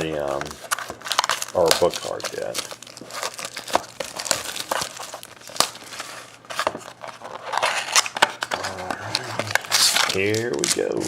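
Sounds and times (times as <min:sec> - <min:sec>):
wrappers crinkling: 0:00.0 - 0:11.0.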